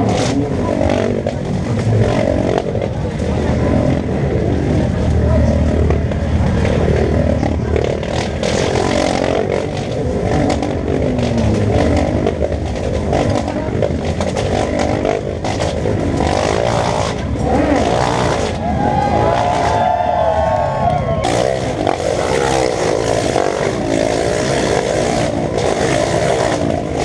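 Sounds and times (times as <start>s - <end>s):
faint voices: 0.0s - 27.0s
motorcycle engines rumbling: 0.0s - 27.0s.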